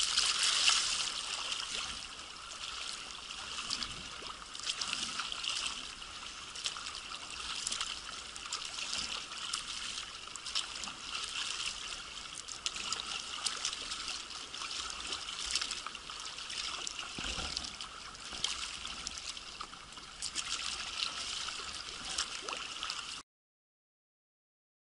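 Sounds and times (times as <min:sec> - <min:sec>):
water splashing along kayak hull: 0:00.0 - 0:23.2.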